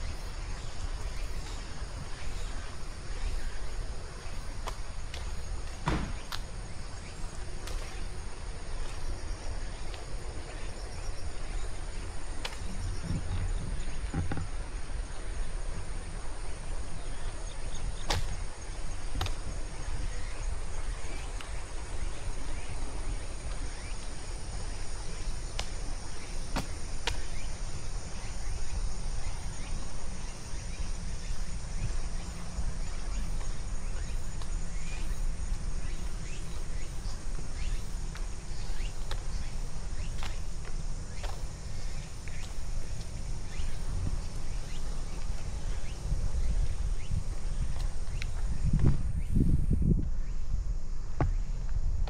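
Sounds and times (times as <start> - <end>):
insects trilling: 0.0 - 52.0.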